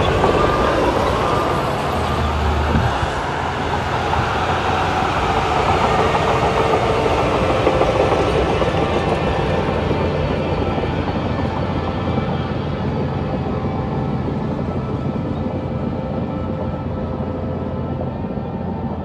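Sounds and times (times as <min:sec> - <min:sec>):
heavy diesel machinery engine drone: 0:00.0 - 0:19.0.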